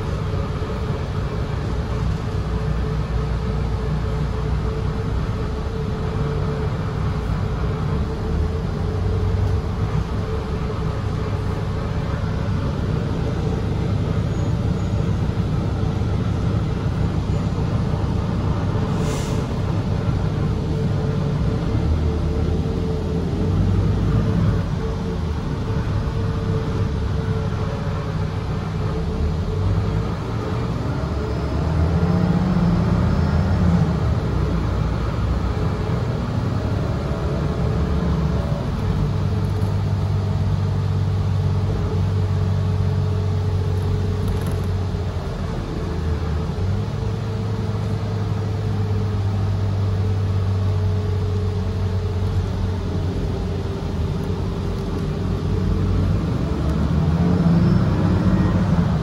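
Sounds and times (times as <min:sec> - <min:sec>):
bus engine rumble: 0:00.0 - 0:59.0
road noise: 0:00.0 - 0:59.0.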